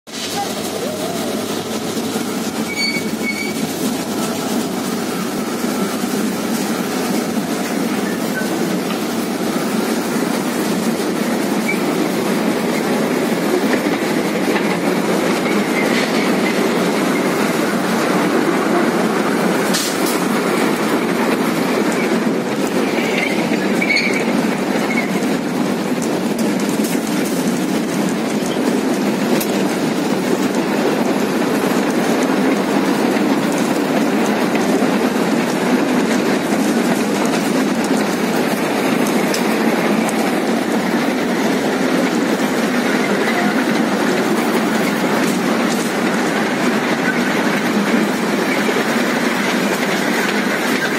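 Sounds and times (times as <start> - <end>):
train wheels rumbling and rattling: 0.1 - 50.9.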